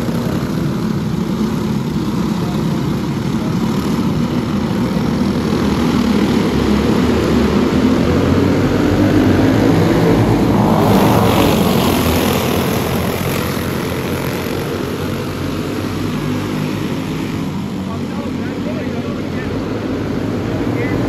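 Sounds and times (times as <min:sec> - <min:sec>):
kart engines buzzing: 0:00.0 - 0:21.0.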